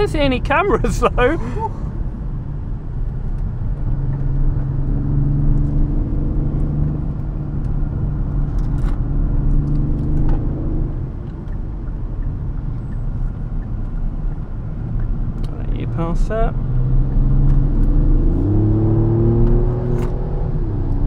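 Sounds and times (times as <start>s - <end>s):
car engine pulling: 0.0s - 21.0s
road and tyre rumble: 0.0s - 21.0s.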